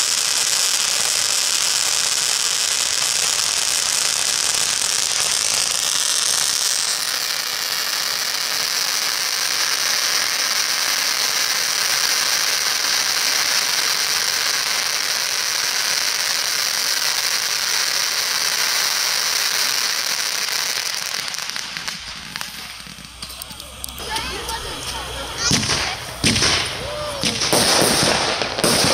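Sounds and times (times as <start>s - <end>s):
firework fountain hissing: 0.0s - 28.9s.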